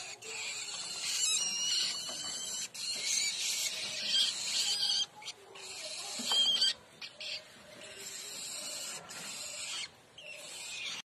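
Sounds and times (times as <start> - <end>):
nestlings begging with hissing calls: 0.0 - 11.0.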